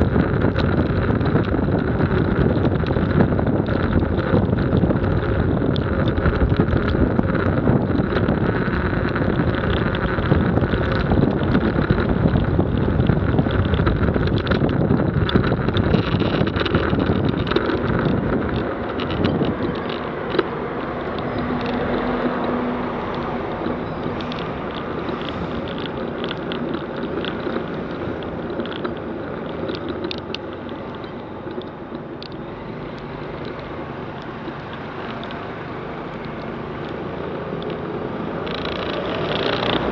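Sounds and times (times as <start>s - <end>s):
road noise on wet street: 0.0s - 39.9s
wind rushing over microphone: 0.0s - 39.9s.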